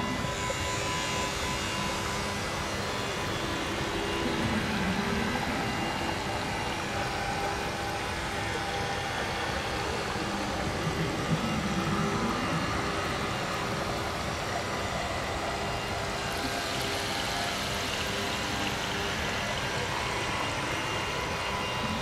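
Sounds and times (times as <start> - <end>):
faint drone tones: 0.0 - 22.0.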